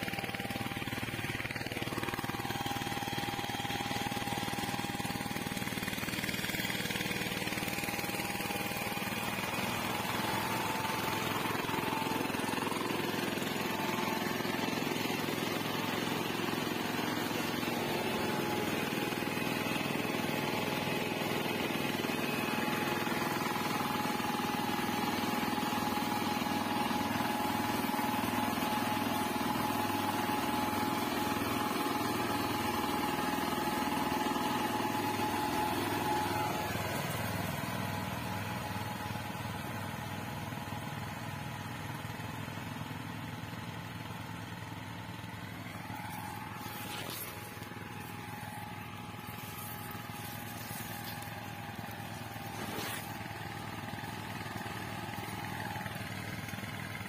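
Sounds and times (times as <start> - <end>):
power weeder engine running: 0.0 - 57.0.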